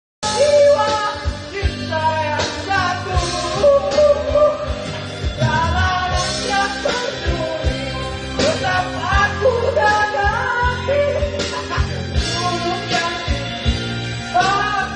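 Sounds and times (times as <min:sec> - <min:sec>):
band with guitar and beat: 0:00.2 - 0:14.9
person singing: 0:00.2 - 0:14.9.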